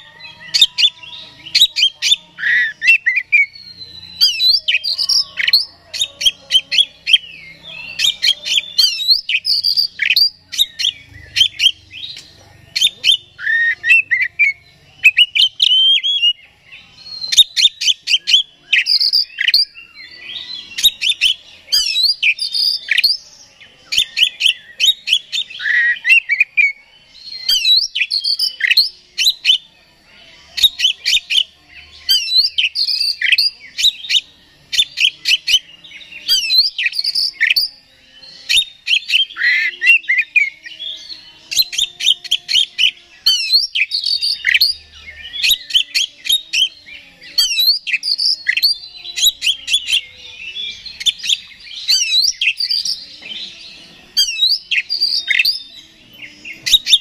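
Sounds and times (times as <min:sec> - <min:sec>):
songbird chirps whistles and trills: 0:00.0 - 0:57.0.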